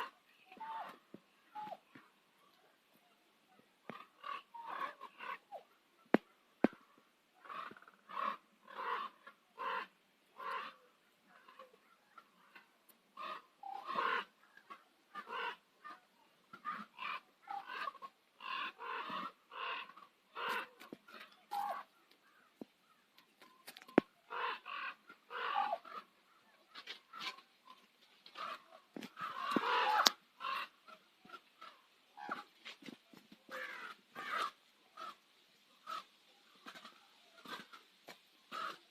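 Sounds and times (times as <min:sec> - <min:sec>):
ravens calling: 0:00.0 - 0:38.9.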